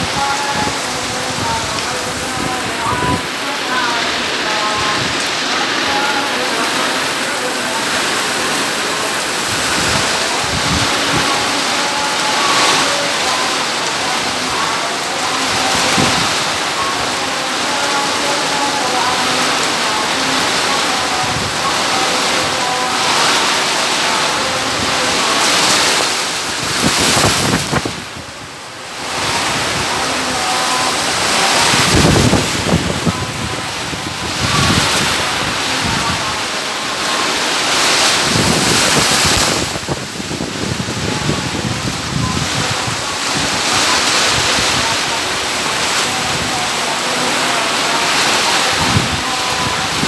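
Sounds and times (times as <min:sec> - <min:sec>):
storm wind blowing hard: 0:00.0 - 0:50.0
surf breaking on shore: 0:00.0 - 0:50.0
wind gusting on microphone: 0:00.0 - 0:50.0.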